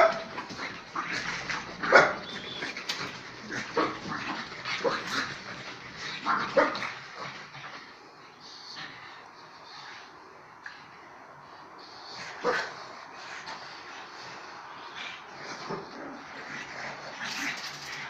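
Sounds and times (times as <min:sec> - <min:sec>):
dogs barking and yelping: 0:00.0 - 0:18.0.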